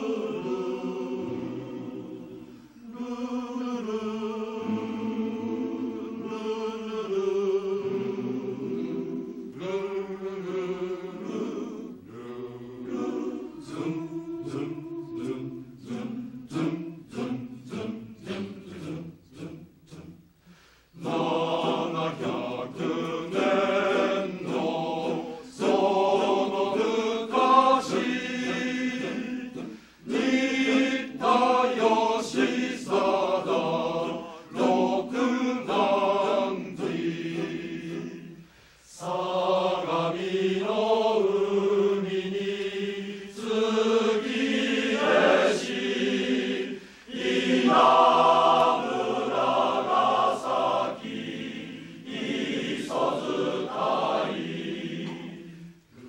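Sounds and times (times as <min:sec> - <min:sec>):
male choir singing: 0:00.0 - 0:56.0.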